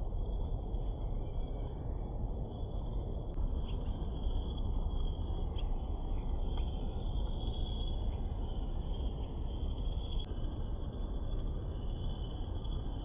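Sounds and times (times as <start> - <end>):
insects chirring: 0.0 - 13.0
low rumbling noise: 0.0 - 13.0.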